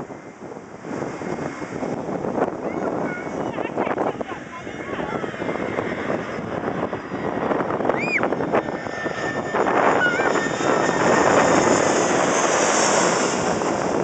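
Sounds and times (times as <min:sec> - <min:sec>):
airliner passing overhead: 0:00.0 - 0:14.0
high engine whine: 0:00.0 - 0:14.0.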